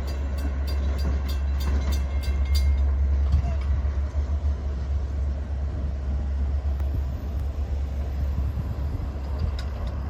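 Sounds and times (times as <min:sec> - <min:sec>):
train rumbling by: 0:00.0 - 0:10.0.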